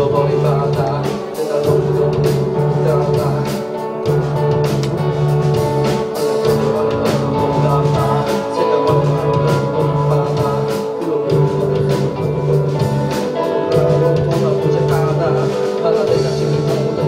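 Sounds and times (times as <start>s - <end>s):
electric guitar playing: 0.0s - 17.0s
held bass notes: 0.0s - 17.0s
steady drum beat: 0.0s - 17.0s.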